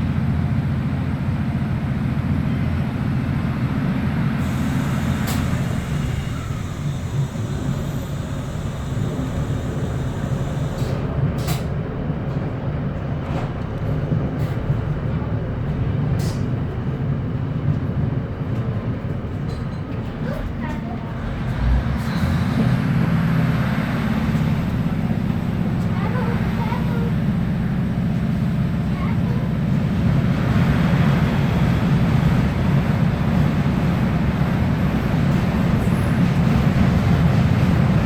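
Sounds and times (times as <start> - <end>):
train diesel engine rumble: 0.0 - 38.0.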